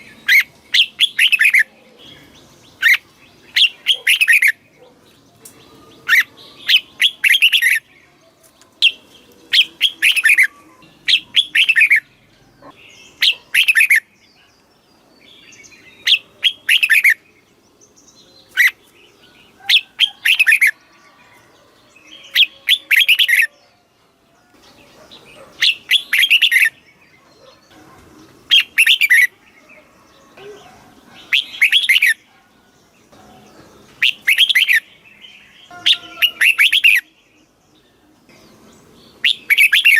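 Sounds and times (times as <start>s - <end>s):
bird singing bright phrases: 0.0s - 39.9s.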